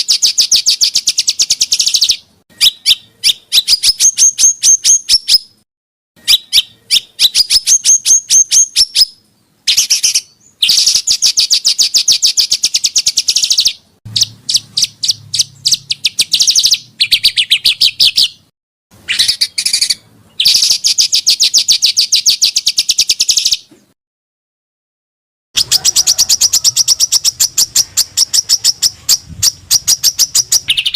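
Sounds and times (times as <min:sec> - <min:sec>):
songbirds calling in rapid trills: 0:00.0 - 0:05.6, 0:06.2 - 0:23.7, 0:25.6 - 0:30.9.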